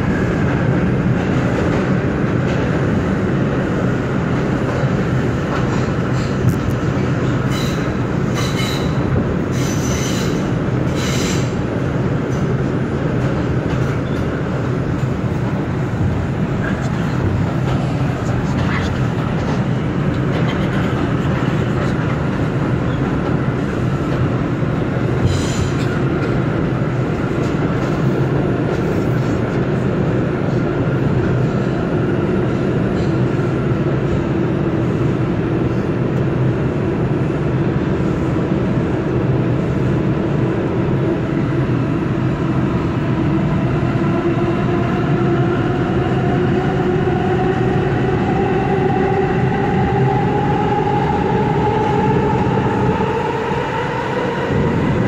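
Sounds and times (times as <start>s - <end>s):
subway wheels rumbling on rails: 0.0s - 55.0s.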